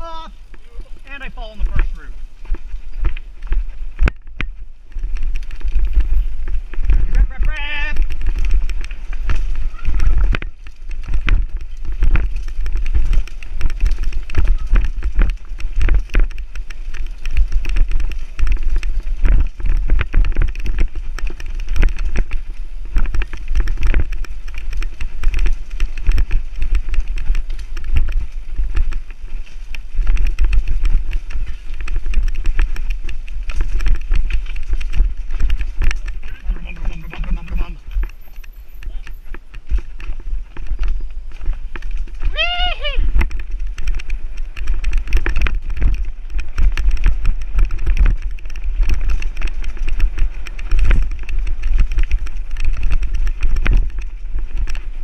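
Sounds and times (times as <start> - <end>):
bike knocking and rattling: 0.0 - 55.0
wind rumble on microphone: 0.0 - 55.0.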